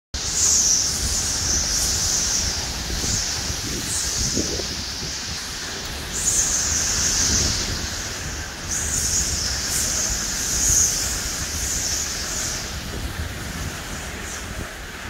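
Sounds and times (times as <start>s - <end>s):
heavy rain: 0.2s - 15.0s
hurricane wind gusts: 0.2s - 15.0s
wind buffeting microphone: 0.2s - 15.0s.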